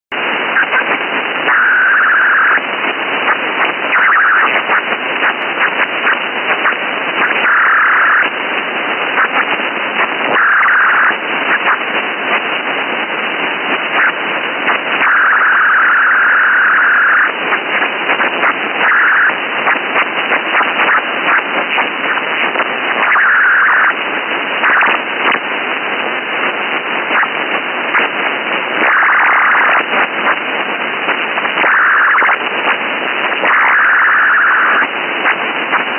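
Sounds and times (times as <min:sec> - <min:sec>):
radio static hiss: 0:00.1 - 0:35.9.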